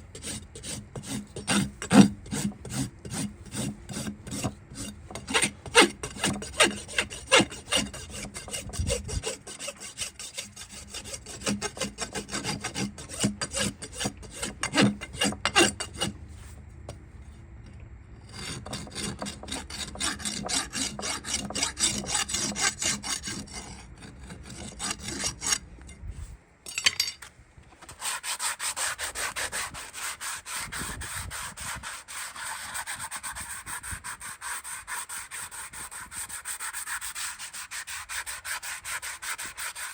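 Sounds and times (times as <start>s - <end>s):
rasp filing a hoof: 0.0s - 16.6s, 18.2s - 26.2s, 27.8s - 39.9s.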